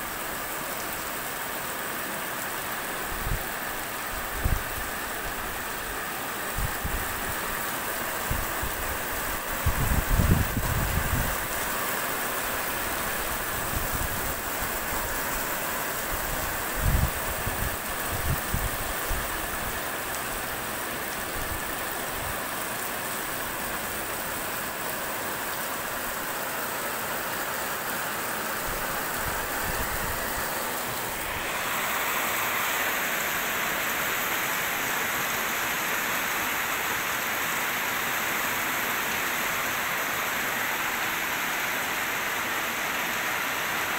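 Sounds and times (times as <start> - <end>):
heavy rain on street: 0.0 - 43.9.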